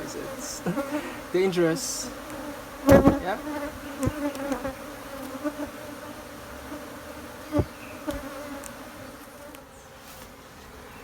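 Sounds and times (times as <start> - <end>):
bees buzzing in a swarm: 0.0 - 11.0.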